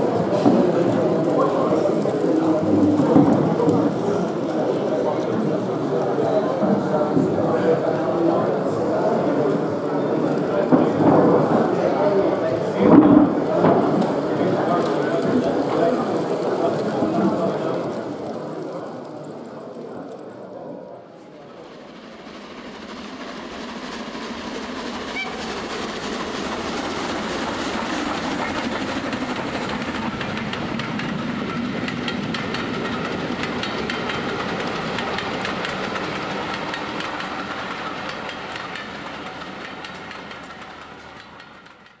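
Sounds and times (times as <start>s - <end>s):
train wheels clicking over rail joints: 0.0s - 20.2s, 21.6s - 42.0s.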